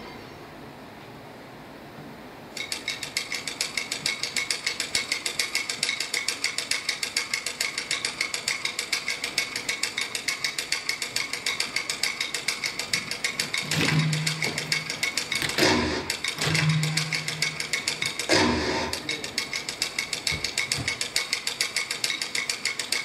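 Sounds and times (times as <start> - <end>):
rapid rhythmic clicking: 2.6 - 23.0.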